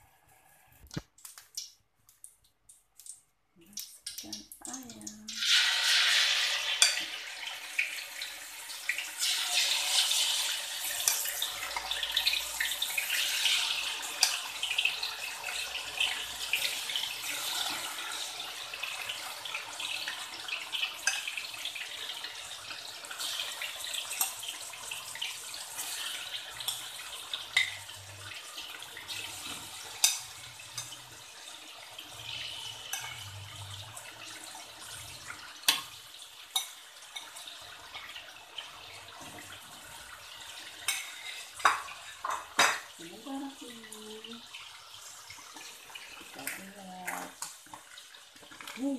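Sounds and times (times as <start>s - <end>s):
chicken deep-frying in oil: 0.0s - 48.9s.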